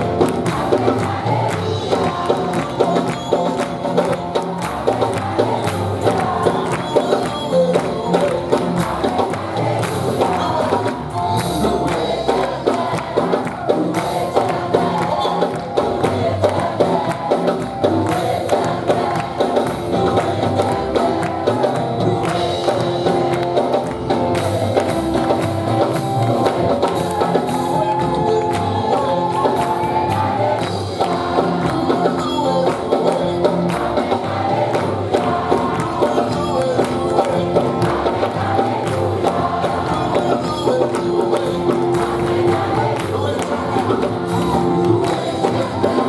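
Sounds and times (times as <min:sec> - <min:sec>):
band with percussion beat: 0:00.0 - 0:46.0
congregation singing: 0:00.0 - 0:46.0.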